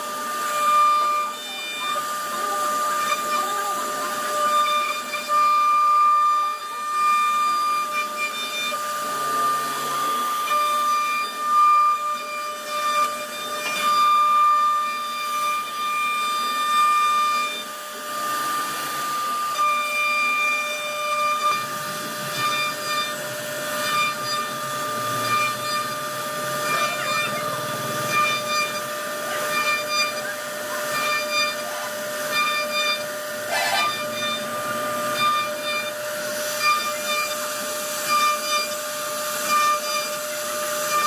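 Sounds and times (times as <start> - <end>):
router bit cutting wood: 0.0 - 41.0
router spindle whining: 0.0 - 41.0.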